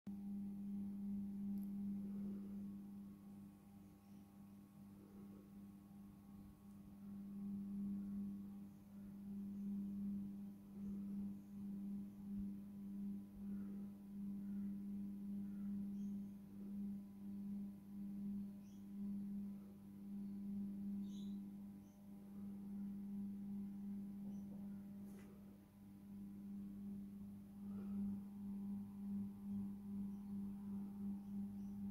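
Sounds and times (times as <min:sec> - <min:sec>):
low electrical hum: 0:00.1 - 0:31.9.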